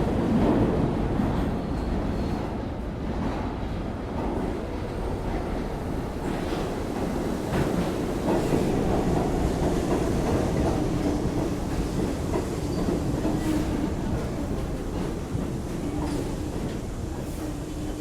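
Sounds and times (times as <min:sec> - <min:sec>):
train rumbling along track: 0:00.0 - 0:18.0.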